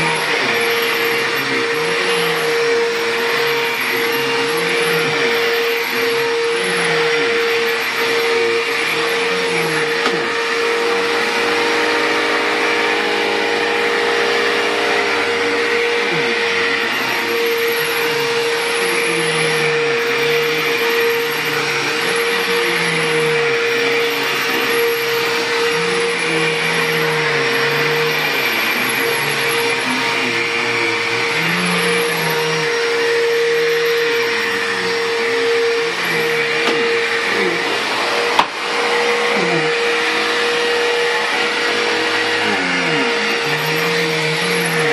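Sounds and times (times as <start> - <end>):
vacuum cleaner running on carpet: 0.0 - 44.9.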